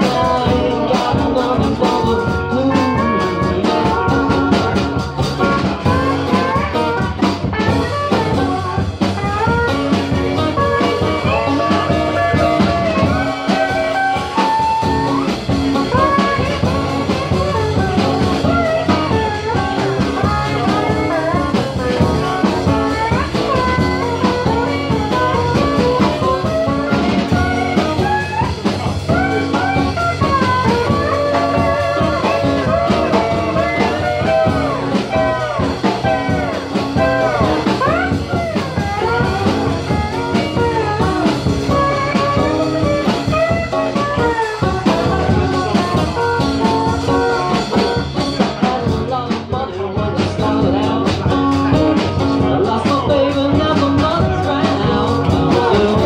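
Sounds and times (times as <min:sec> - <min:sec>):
acoustic bass: 0:00.0 - 0:56.0
person singing: 0:00.0 - 0:56.0.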